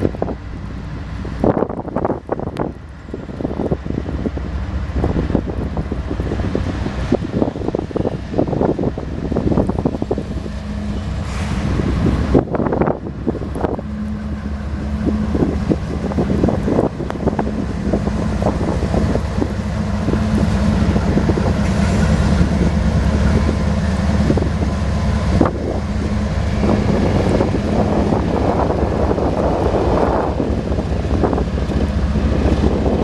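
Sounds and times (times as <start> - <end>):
locomotive engines running: 0.0 - 33.0
wind buffeting microphone: 0.0 - 33.0.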